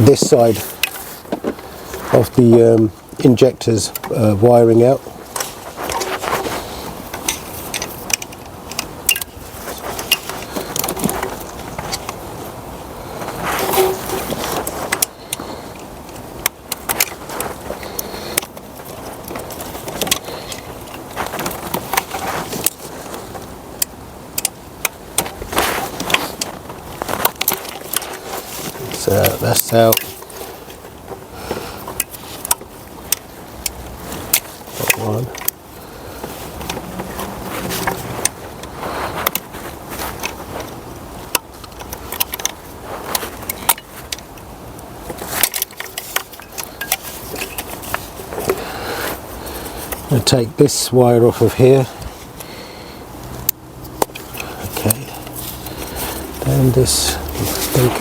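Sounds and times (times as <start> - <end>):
low rustle of handling: 0.0 - 58.0.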